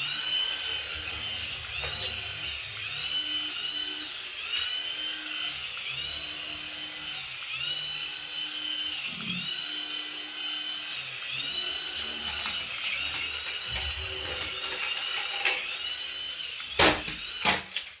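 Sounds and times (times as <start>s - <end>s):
remote-control toy whirring: 0.0s - 18.0s.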